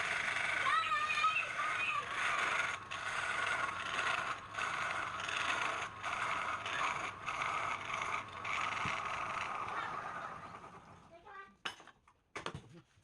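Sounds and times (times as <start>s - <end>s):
wood scraping on a lathe: 0.0s - 11.1s.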